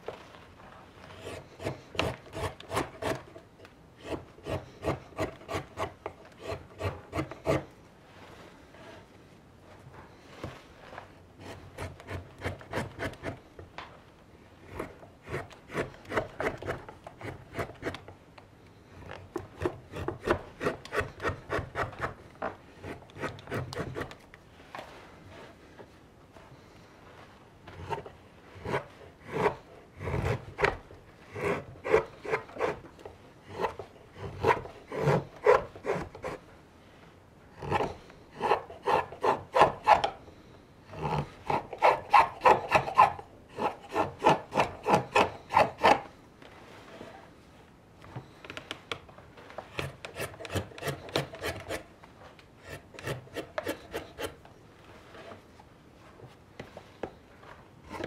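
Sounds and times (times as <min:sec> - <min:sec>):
knife shaving green wood: 0:00.2 - 0:09.1, 0:10.2 - 0:13.6, 0:14.5 - 0:18.2, 0:18.8 - 0:25.8, 0:26.6 - 0:36.5, 0:37.6 - 0:47.1, 0:49.4 - 0:51.9, 0:52.6 - 0:55.4.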